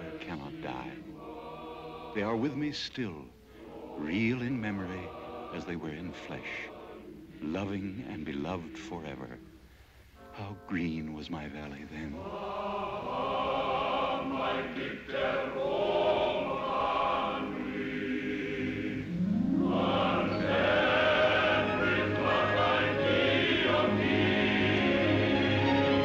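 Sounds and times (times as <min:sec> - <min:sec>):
choir singing film score: 0:00.0 - 0:26.0.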